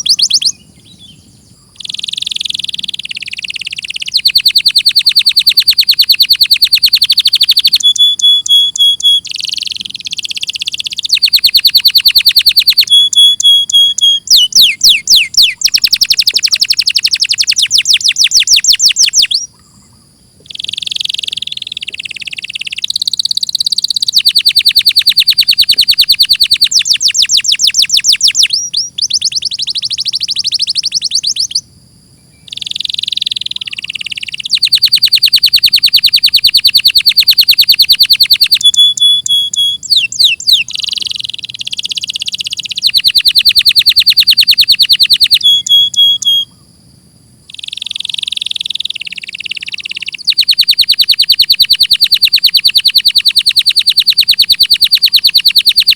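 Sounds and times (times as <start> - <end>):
canary singing trills: 0.0 - 46.8, 47.4 - 55.9.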